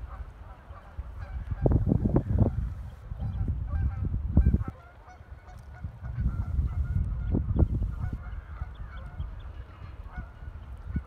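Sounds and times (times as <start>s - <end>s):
waterfowl calls: 0.0s - 11.0s
wind buffeting microphone: 0.0s - 11.0s.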